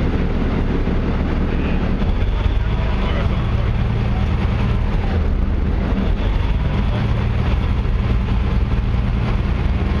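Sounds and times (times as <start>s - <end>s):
boat engine droning: 0.0s - 10.0s
loud rushing noise: 0.0s - 10.0s.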